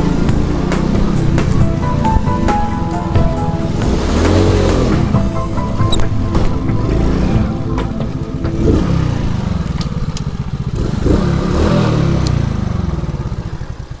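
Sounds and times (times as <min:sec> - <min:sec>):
moped engine revving: 0:00.0 - 0:14.0.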